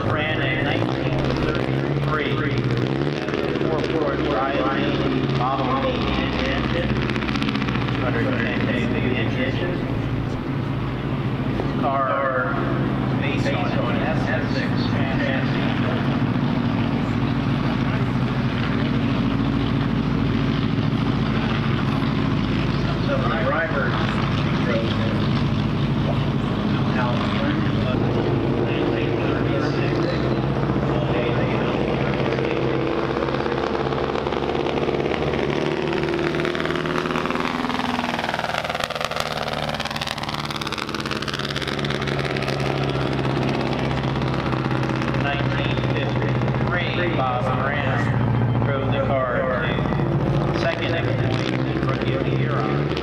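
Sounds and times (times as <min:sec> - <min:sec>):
race car engine droning: 0:00.0 - 0:53.0.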